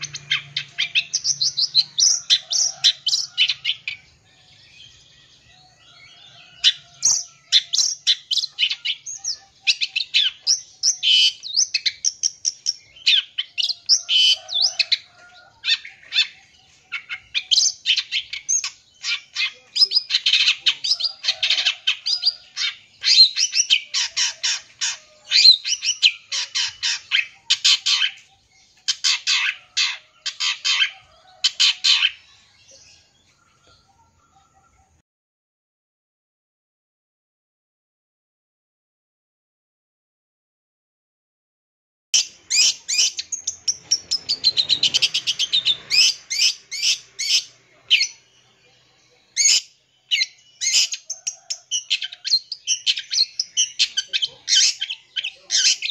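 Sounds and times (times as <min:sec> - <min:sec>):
bird singing chirps and trills: 0:00.0 - 0:35.0, 0:42.2 - 0:55.9.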